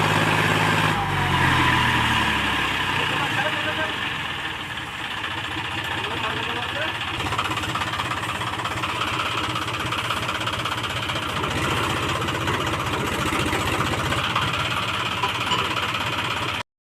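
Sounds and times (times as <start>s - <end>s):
tractor diesel engine running: 0.0s - 16.6s.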